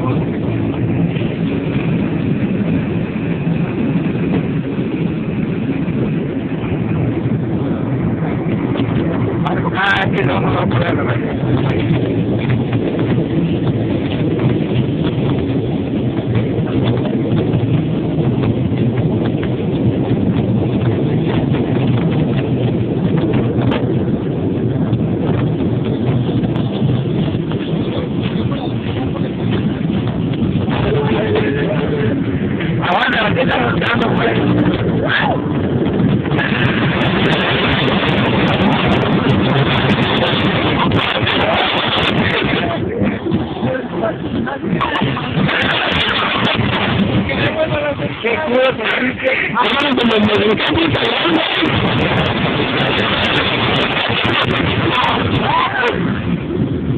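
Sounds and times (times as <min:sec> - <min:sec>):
ride low rumble: 0:00.0 - 0:56.9
wind buffeting microphone: 0:00.0 - 0:56.9.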